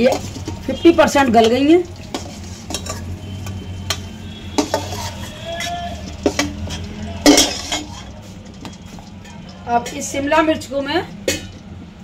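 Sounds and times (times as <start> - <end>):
ladle scraping a pan: 0.0 - 10.1
oil sizzling: 0.0 - 12.0.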